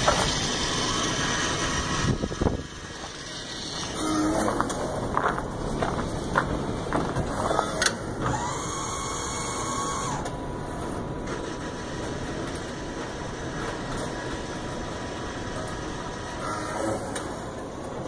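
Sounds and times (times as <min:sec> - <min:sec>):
motor whine and hum: 0:00.0 - 0:18.0.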